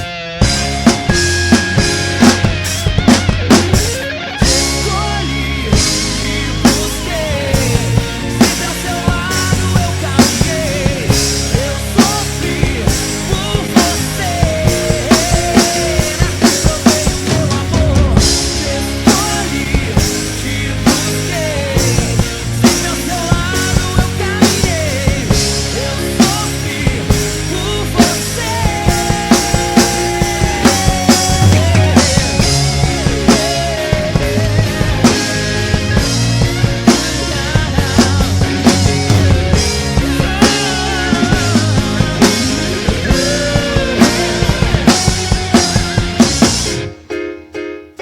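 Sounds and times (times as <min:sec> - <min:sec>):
drum kit beat: 0:00.0 - 0:47.7
melodic lead line: 0:00.0 - 0:48.0.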